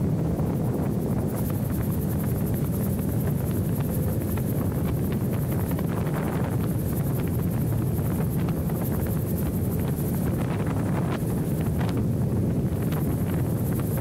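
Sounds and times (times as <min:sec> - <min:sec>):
gyrocopter engine and rotor: 0:00.0 - 0:14.0
wind buffeting microphone: 0:00.0 - 0:14.0.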